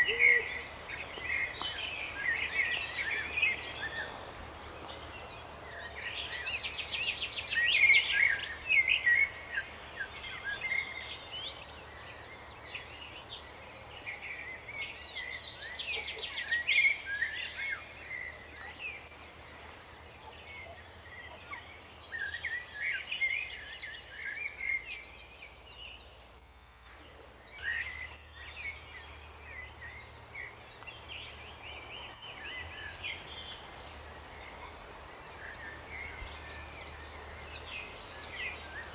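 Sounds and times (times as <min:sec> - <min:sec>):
songbirds singing: 0:00.0 - 0:26.5, 0:27.5 - 0:38.9.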